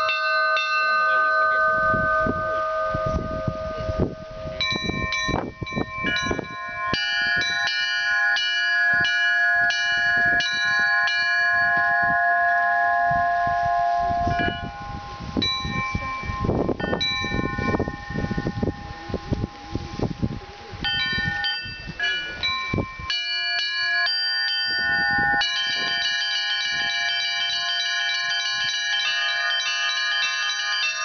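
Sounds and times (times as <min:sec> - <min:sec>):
church bells pealing: 0:00.0 - 0:31.0.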